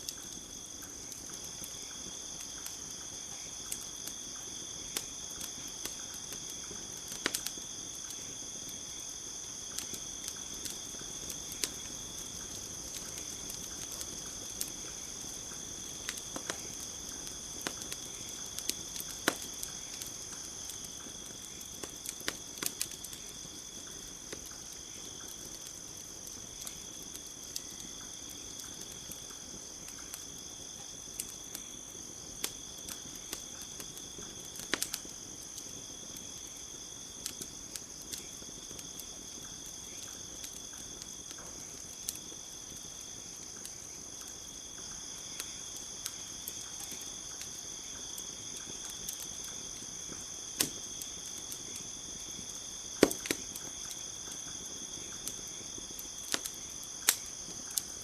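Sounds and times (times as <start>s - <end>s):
campfire crackling: 0.0s - 58.0s
crickets chirring: 0.0s - 58.0s.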